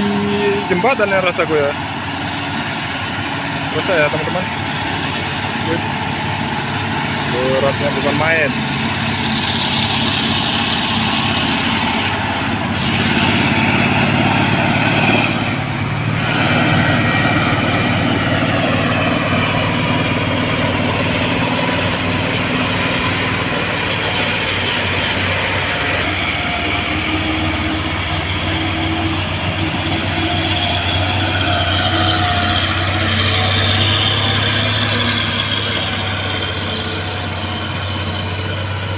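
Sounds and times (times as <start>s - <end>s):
truck diesel engine under load: 0.0s - 38.9s.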